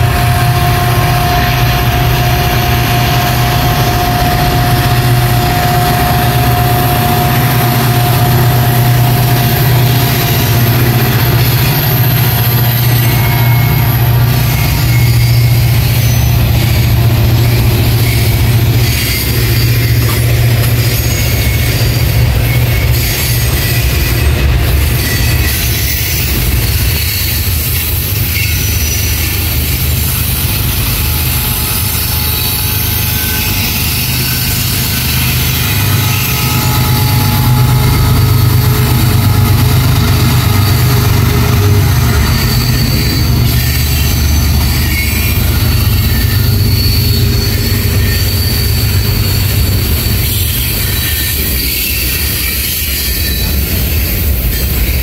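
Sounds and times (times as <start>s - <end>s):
high wheel squeals: 0.0s - 55.0s
train wheels rumbling: 0.0s - 55.0s.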